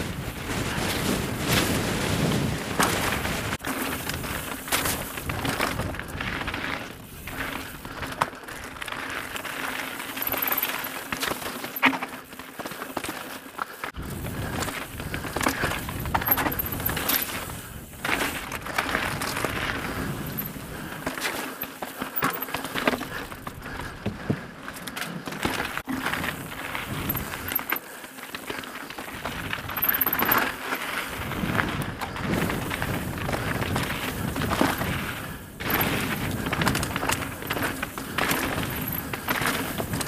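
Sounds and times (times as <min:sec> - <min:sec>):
bike knocking and clattering: 0:00.0 - 0:40.0.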